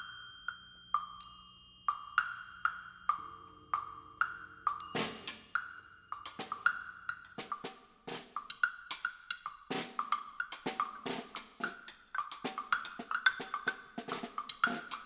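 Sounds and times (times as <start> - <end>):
wood block strikes: 0.0 - 15.0.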